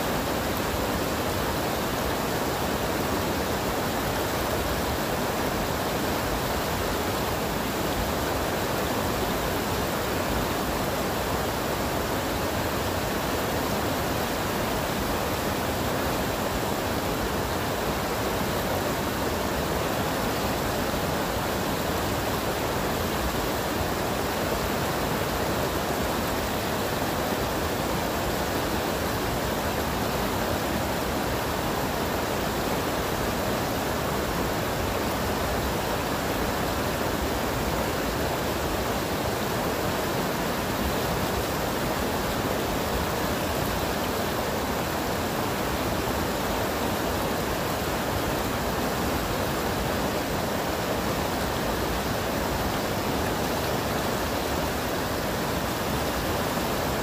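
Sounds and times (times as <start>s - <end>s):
water rushing over boulders: 0.0s - 57.0s.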